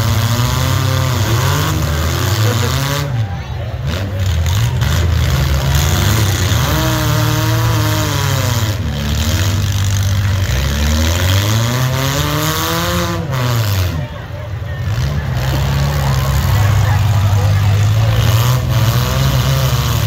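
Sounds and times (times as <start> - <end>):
car engines revving hard: 0.0 - 20.0.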